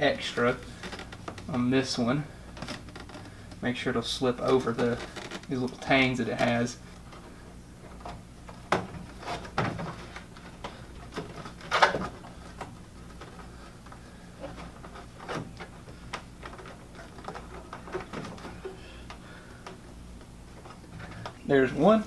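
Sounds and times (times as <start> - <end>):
plastic hose rustling and scraping: 0.0 - 22.0.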